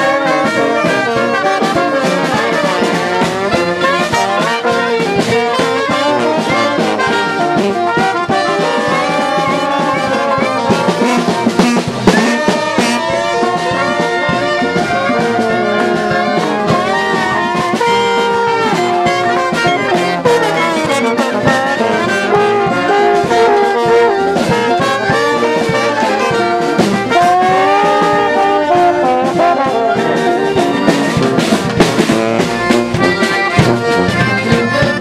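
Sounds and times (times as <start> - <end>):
brass band playing jazz: 0.0 - 35.0
sliding trombone smears: 0.0 - 35.0.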